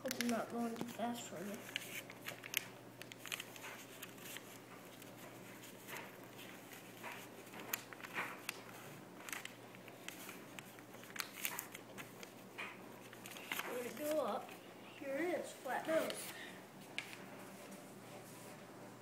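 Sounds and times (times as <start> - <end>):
paper rustling and creasing: 0.0 - 18.6.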